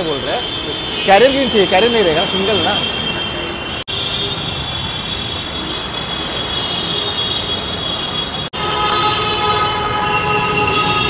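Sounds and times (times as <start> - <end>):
rumbling street noise: 0.0 - 11.0.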